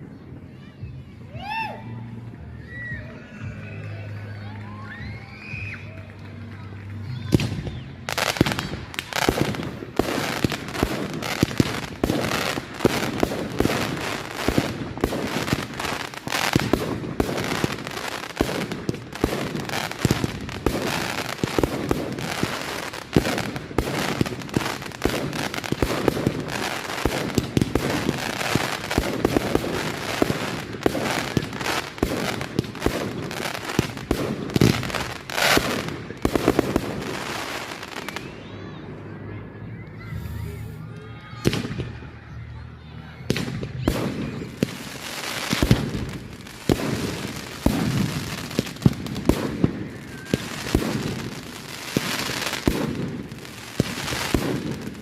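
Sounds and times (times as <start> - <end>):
fireworks bangs and crackles: 2.2 - 39.0, 40.1 - 55.0.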